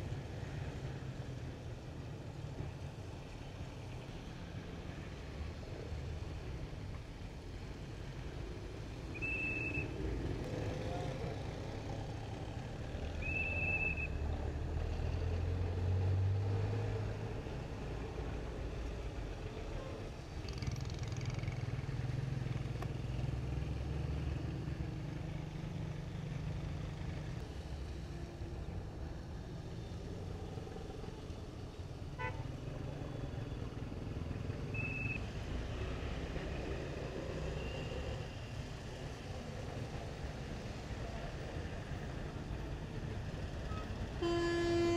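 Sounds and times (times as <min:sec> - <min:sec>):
cars and motorcycles passing: 0:00.0 - 0:44.9.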